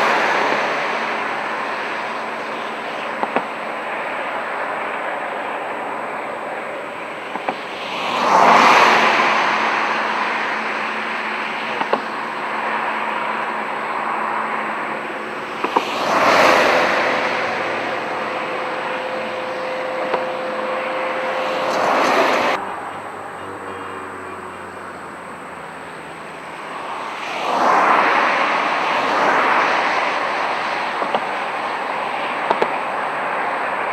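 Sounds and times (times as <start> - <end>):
traffic noise: 0.0 - 33.9
vehicles passing: 0.0 - 33.9.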